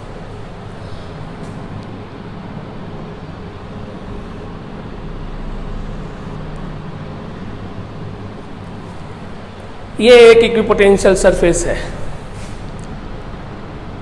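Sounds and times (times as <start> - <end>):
low hum: 0.0 - 14.0
low room rumble: 0.0 - 14.0.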